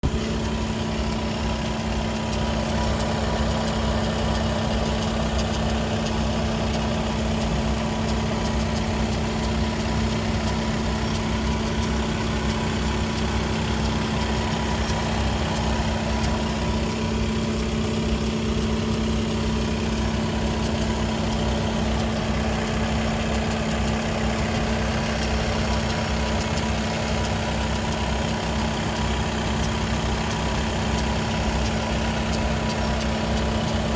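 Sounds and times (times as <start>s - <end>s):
diesel engine idling: 0.0s - 33.9s
strange gearbox noise: 0.0s - 33.9s.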